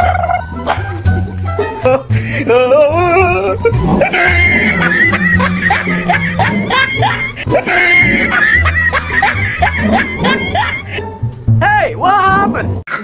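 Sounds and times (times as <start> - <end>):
comedic music with low beat: 0.0 - 13.0.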